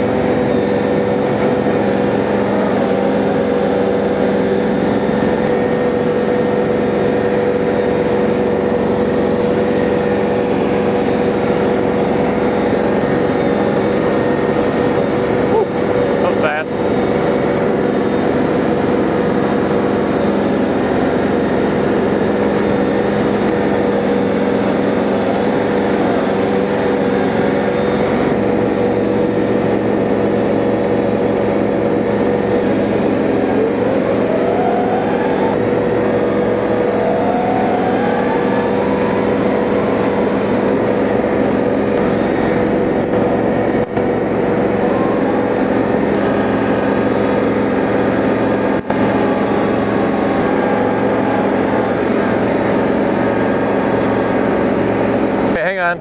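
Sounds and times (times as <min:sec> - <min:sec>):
rising whines: 0:00.0 - 0:56.0
tractor diesel engine running: 0:00.0 - 0:56.0.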